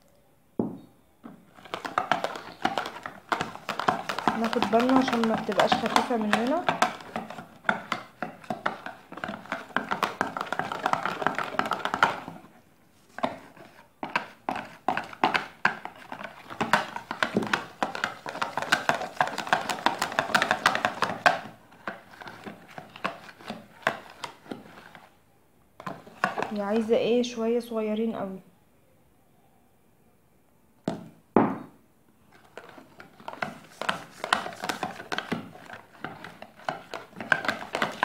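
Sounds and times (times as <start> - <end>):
whisk beating batter in plastic tub: 1.3 - 25.1, 25.8 - 27.0, 32.3 - 38.0.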